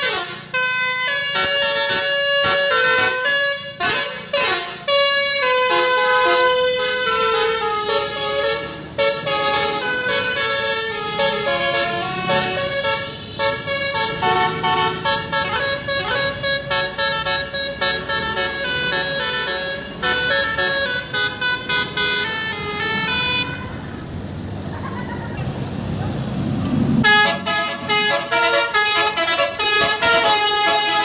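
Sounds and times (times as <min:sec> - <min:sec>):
multi-tone horn playing a melody: 0:00.0 - 0:23.7, 0:27.0 - 0:31.0.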